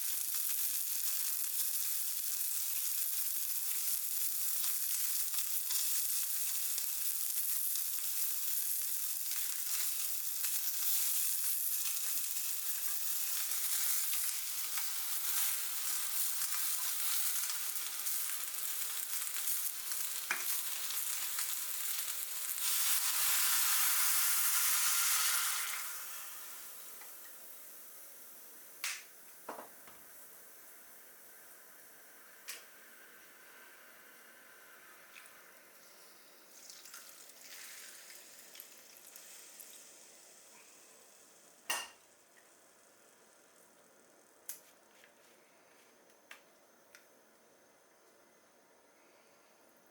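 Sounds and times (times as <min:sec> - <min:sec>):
food sizzling in a tin: 0:00.0 - 0:44.7.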